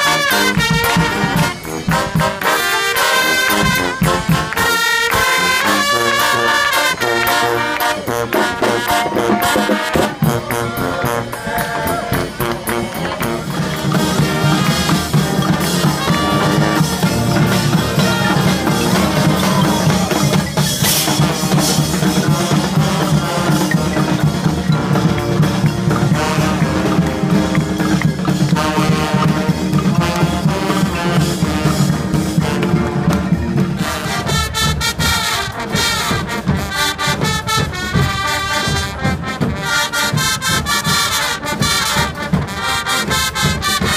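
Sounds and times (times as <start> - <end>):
brass band playing: 0.0 - 43.9
drums: 0.0 - 43.9.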